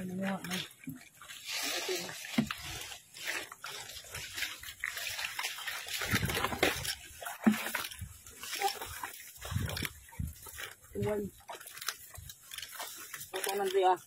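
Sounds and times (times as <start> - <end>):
footsteps splashing through mud: 0.0 - 14.0.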